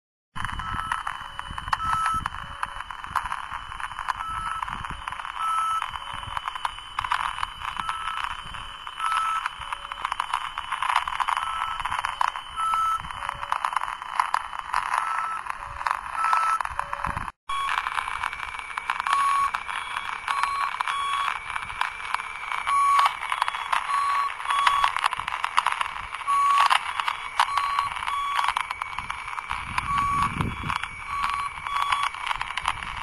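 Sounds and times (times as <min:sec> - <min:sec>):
crackling radio static: 0:00.4 - 0:33.0.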